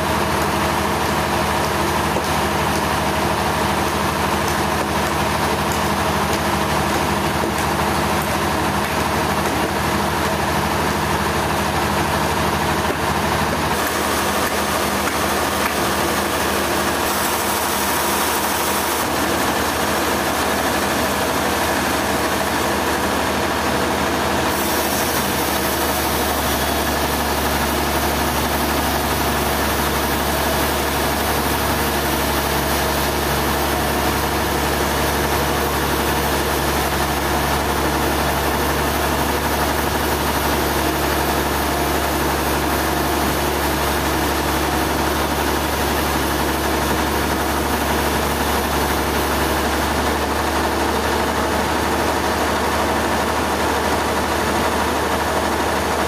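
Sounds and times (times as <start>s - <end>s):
heavy engine low hum: 0.0s - 56.0s
mechanical din of sawmill: 0.0s - 56.0s.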